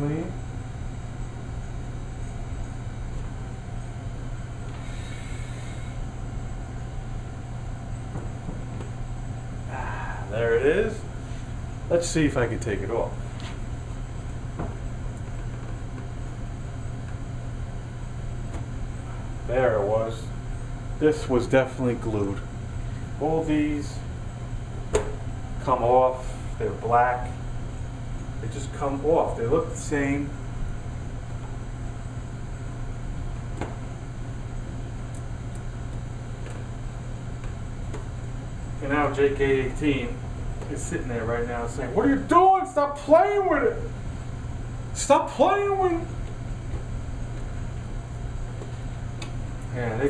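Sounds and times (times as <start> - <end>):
ventilation hum: 0.0 - 50.0.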